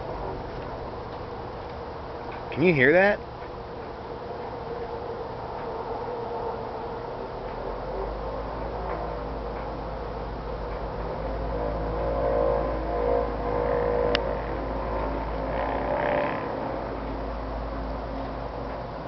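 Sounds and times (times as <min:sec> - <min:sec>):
droning hum in the sky: 0:00.0 - 0:19.0
low rumble: 0:00.0 - 0:19.0.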